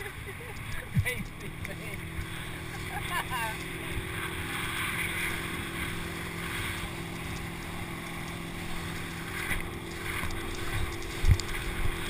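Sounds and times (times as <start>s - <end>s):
faint boat engine drone: 0.0s - 12.0s
water splashing: 0.0s - 12.0s
wind rushing on microphone: 0.0s - 12.0s.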